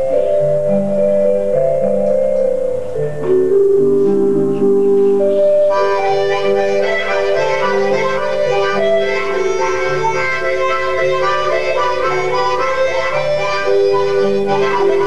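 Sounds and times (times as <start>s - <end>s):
harmonica: 0.0s - 15.0s
keyboard chords: 0.0s - 15.0s.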